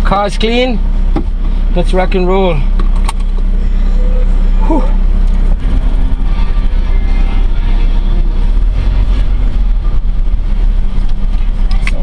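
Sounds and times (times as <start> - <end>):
pickup truck engine rumble: 0.0 - 12.0
road noise: 0.0 - 12.0.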